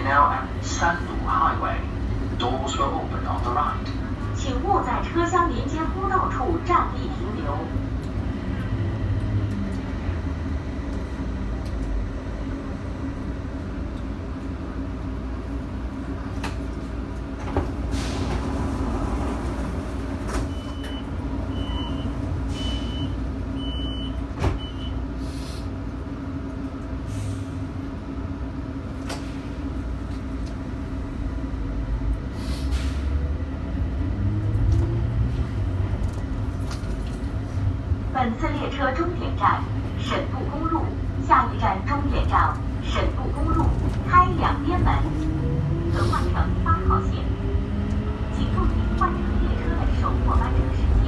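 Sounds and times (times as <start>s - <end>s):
train rumbling: 0.0s - 51.0s.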